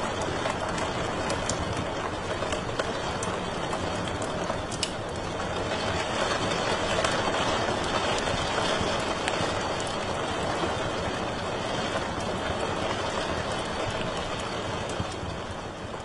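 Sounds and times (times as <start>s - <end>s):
sharp fire pops: 0.0s - 16.0s
wood fire crackling: 0.0s - 16.0s.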